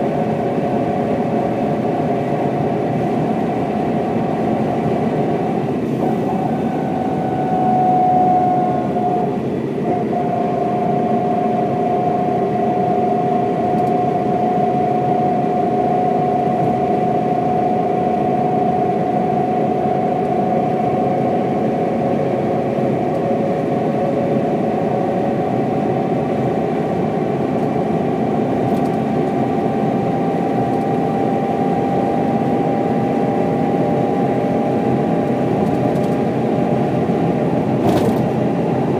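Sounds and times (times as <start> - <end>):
bus diesel engine running: 0.0 - 38.9
high drivetrain whine: 0.0 - 38.9.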